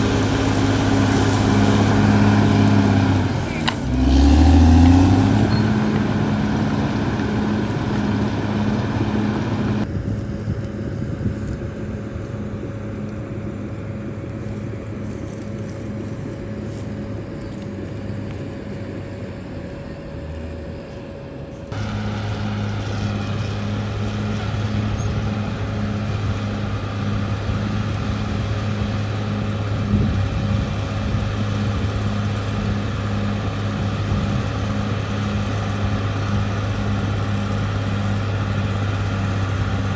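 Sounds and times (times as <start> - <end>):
bulldozer diesel engine droning: 0.0 - 10.0, 11.0 - 39.9.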